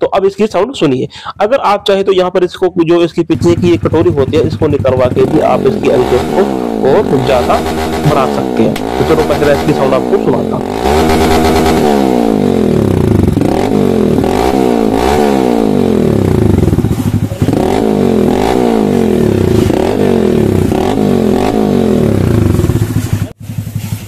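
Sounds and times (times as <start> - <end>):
motorcycle engine revving: 3.3 - 24.0.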